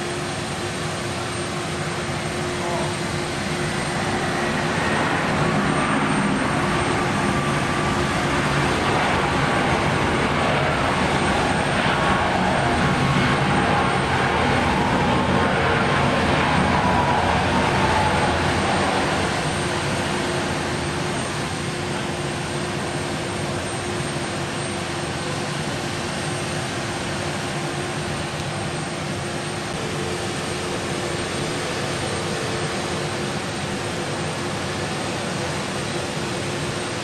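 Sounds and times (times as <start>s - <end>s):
jet engines at low thrust: 0.0s - 37.0s.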